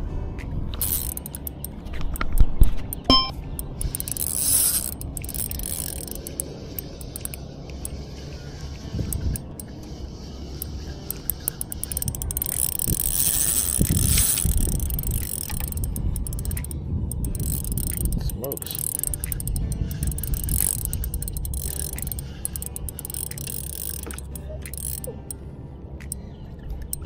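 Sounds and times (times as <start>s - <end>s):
fishing reel gears ticking: 0.8s - 8.2s, 9.0s - 9.8s, 10.5s - 25.4s, 26.0s - 27.0s.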